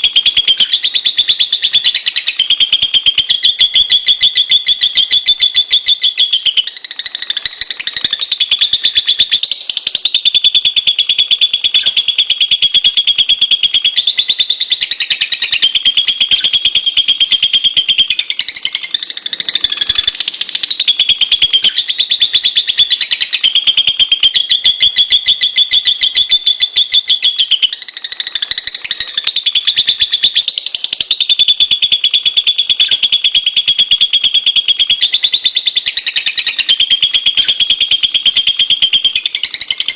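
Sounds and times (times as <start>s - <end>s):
bird shrill chattering trill: 0.0s - 39.9s.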